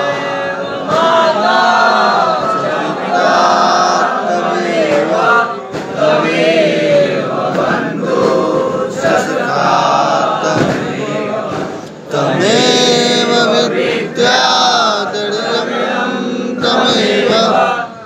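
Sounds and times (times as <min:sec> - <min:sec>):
voices chanting a hymn: 0:00.0 - 0:18.0.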